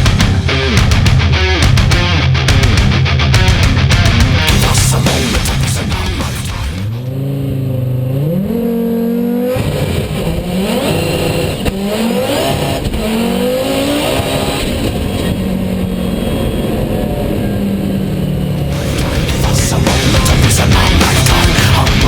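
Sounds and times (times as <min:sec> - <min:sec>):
turbocharged engine accelerating: 0:03.4 - 0:22.0.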